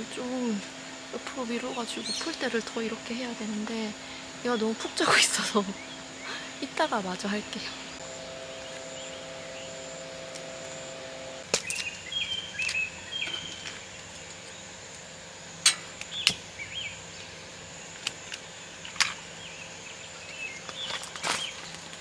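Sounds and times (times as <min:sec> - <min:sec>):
birds chirping: 0:00.0 - 0:21.7
electric fan hum: 0:00.0 - 0:22.0
high insect whine: 0:00.0 - 0:22.0.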